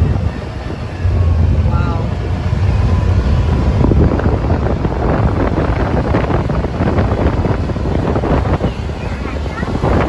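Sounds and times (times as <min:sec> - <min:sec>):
vehicle running noise: 0:00.0 - 0:10.0
wind buffeting microphone: 0:00.0 - 0:10.0.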